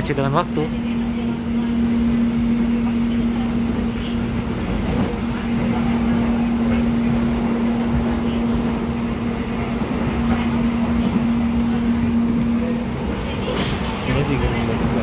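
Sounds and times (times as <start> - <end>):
constant low hum: 0.0 - 15.0
train wheels rumbling: 0.0 - 15.0.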